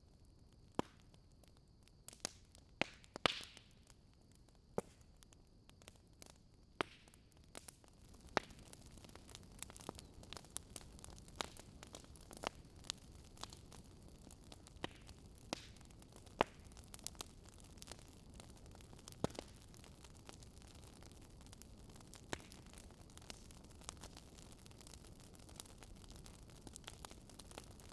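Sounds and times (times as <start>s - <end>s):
wood fire crackling: 0.2s - 27.9s.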